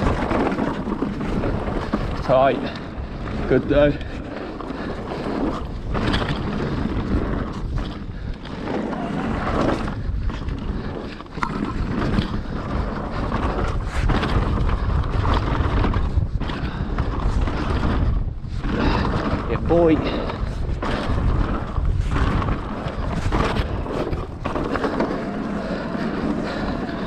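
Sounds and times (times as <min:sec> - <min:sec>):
bike knocking and rattling: 0:00.0 - 0:27.0
bike tyres rumbling on dirt: 0:00.0 - 0:27.0
wind buffeting microphone: 0:00.0 - 0:27.0.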